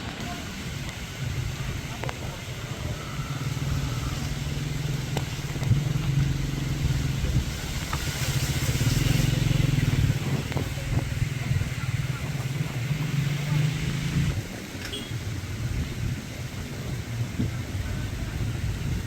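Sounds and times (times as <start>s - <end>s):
engine low drone: 0.0s - 19.0s.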